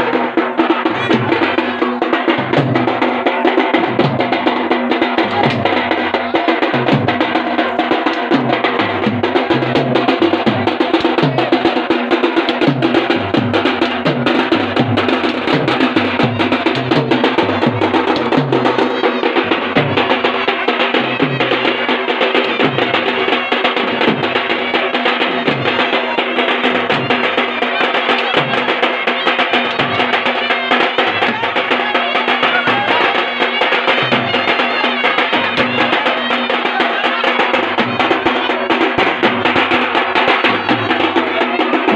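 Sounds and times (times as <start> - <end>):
dhol drums playing fast: 0.0 - 41.9.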